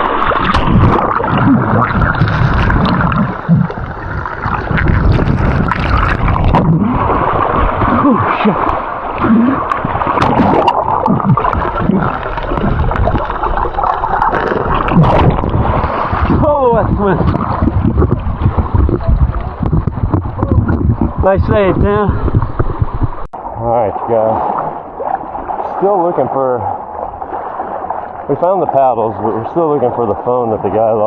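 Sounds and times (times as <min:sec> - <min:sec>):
river water rushing and gurgling: 0:00.0 - 0:31.0.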